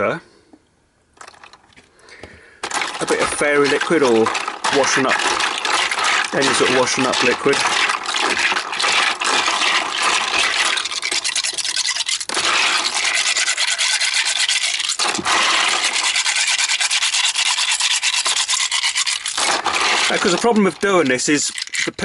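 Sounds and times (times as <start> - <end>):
soapy hands scrubbing in water: 2.6 - 22.0.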